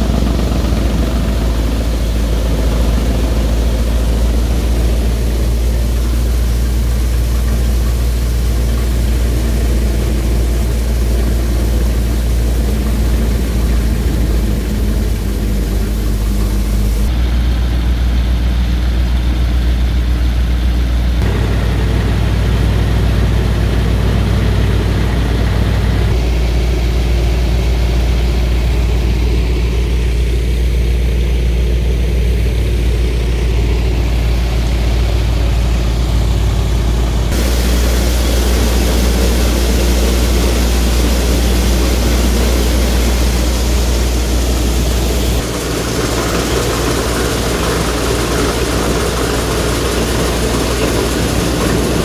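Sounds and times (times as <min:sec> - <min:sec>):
thresher machinery running: 0:00.0 - 0:52.0
tractor engine under load: 0:00.0 - 0:52.0.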